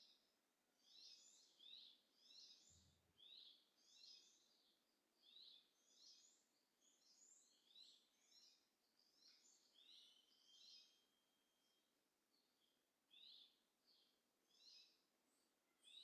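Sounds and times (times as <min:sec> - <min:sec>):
bird chirping: 0:00.8 - 0:16.0.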